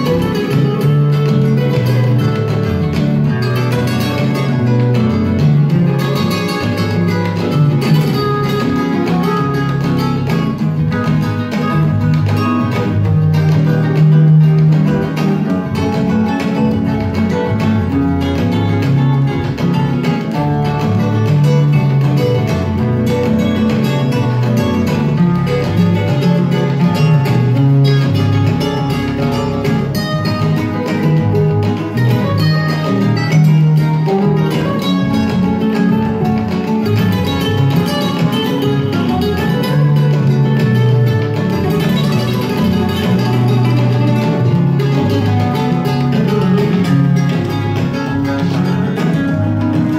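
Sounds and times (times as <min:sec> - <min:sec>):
guitar-led music from loudspeakers: 0:00.0 - 0:49.9.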